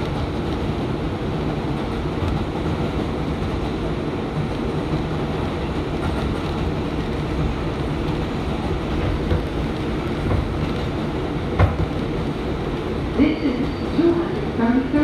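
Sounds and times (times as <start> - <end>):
subway car wheels rumbling: 0.0 - 15.0.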